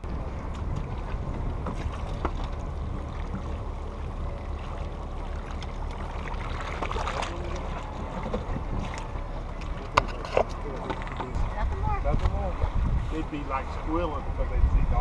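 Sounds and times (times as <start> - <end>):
steady low rumble: 0.0 - 15.0
waves lapping against hull: 0.0 - 15.0.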